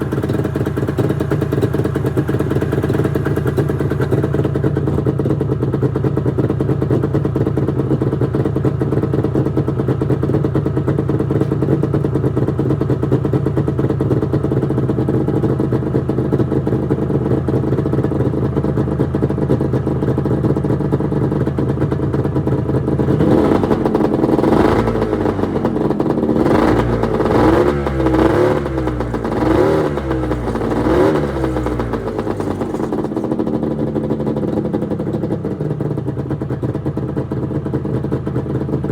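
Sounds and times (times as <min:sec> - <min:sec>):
snowmobile engine idling and revving: 0:00.0 - 0:38.9.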